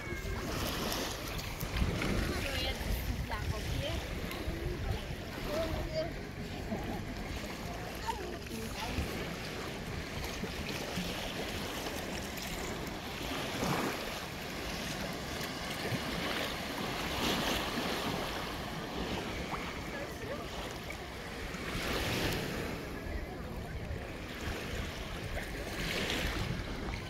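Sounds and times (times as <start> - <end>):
sea water lapping on beach: 0.0 - 27.0
wind on microphone: 0.0 - 27.0.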